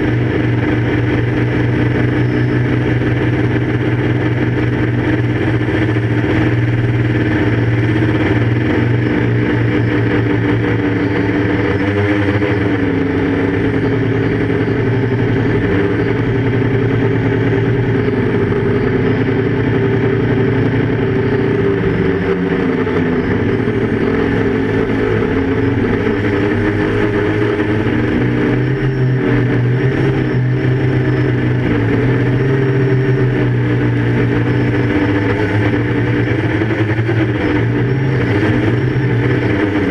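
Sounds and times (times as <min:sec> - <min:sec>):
drone propellers droning: 0:00.0 - 0:39.9.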